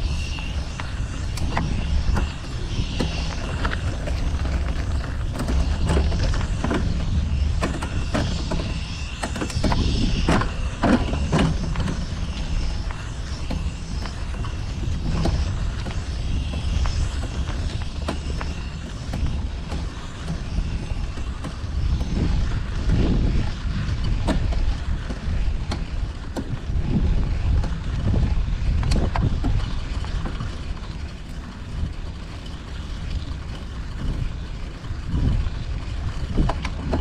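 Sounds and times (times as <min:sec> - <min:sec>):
bicycle clicks and creaks: 0:00.0 - 0:37.0
road noise: 0:00.0 - 0:37.0
wind on microphone: 0:00.0 - 0:37.0.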